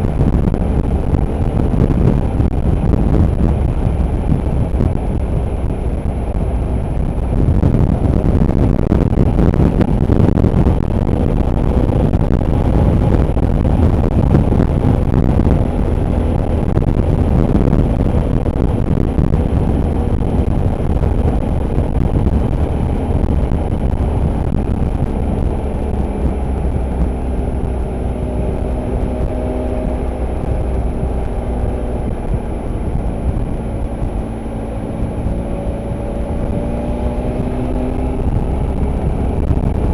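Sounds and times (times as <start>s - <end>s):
motorcycle engine running: 0.0s - 39.9s
rumbling wind and road noise: 0.0s - 39.9s.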